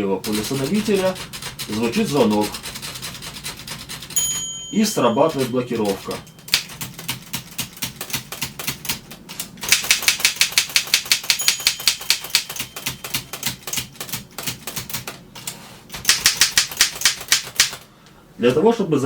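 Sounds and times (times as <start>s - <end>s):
typewriter typing: 0.0s - 17.9s.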